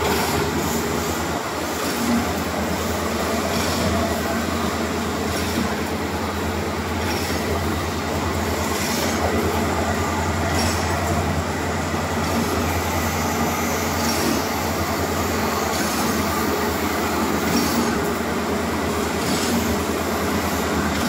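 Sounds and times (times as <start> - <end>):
machine mechanical drone: 0.0 - 21.0.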